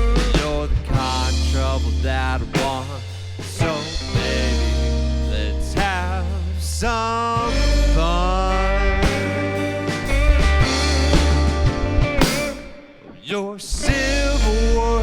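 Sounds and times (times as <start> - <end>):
rock band playing: 0.0 - 13.2, 13.8 - 15.0
wavering lead guitar line: 0.0 - 15.0.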